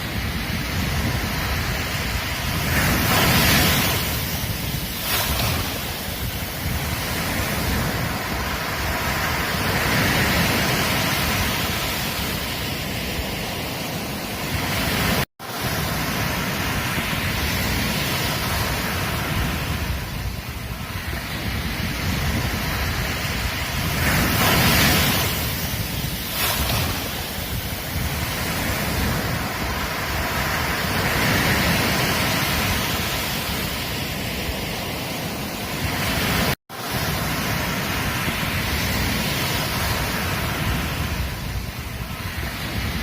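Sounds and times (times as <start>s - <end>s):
surf washing on beach: 0.0s - 43.0s
wind rumble on microphone: 0.0s - 43.0s.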